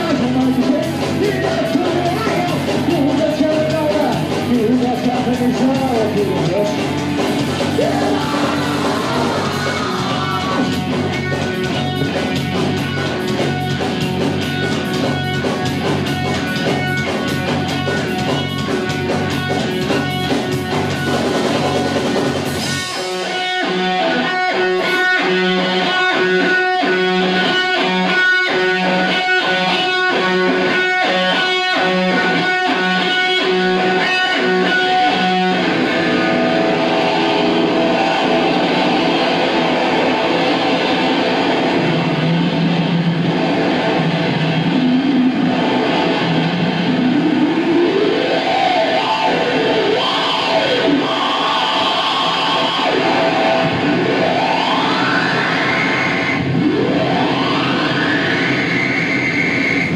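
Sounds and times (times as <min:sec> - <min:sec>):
distorted electric guitar: 0:00.0 - 0:59.9
drums: 0:00.0 - 0:59.9.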